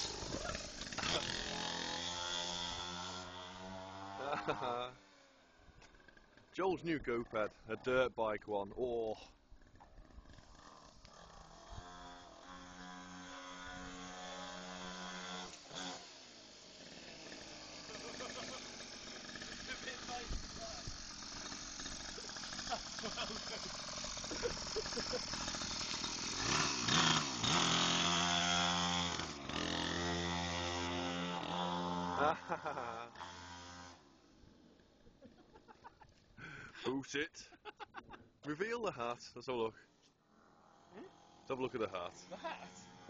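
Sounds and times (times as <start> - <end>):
mini dirt bike engine running: 0.0 - 6.6, 9.1 - 36.6, 40.3 - 43.0.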